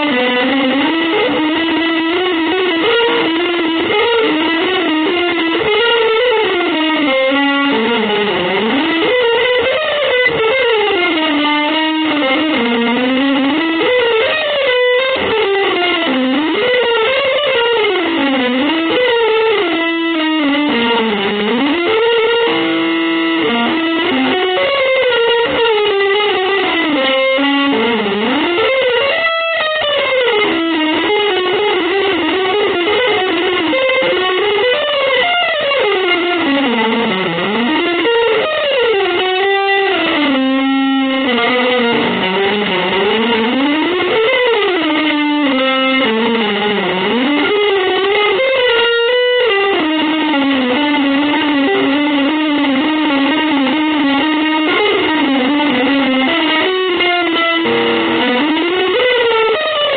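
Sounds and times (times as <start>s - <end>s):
electric guitar melody: 0.0s - 59.9s.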